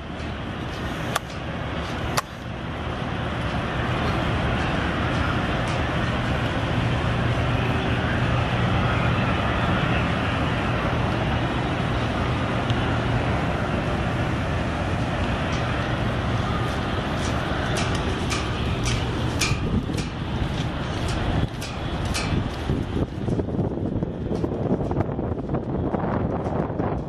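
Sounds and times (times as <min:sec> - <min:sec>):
vehicle engine and road noise: 0:00.0 - 0:27.0.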